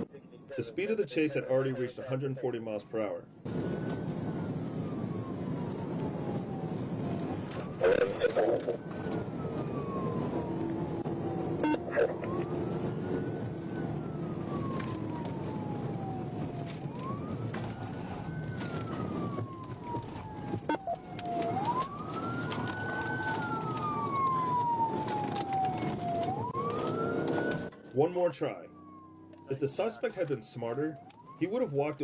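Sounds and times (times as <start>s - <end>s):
police car siren wailing: 0.0s - 32.0s
road and engine noise: 0.0s - 32.0s.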